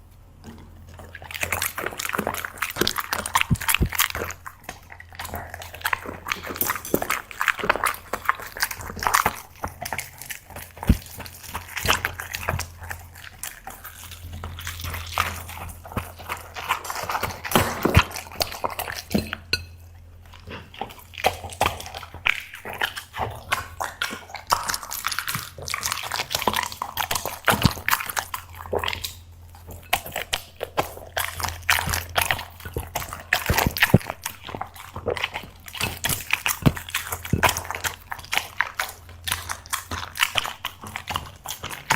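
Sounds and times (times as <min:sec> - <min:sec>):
dog eating with mouth smacking: 0:00.0 - 0:41.9
faint low hum: 0:00.0 - 0:41.9.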